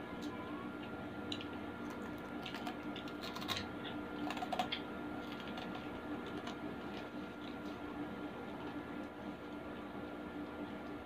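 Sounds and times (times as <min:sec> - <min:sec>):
faint steady hum: 0:00.0 - 0:11.0
food crackling while eaten: 0:00.2 - 0:09.9.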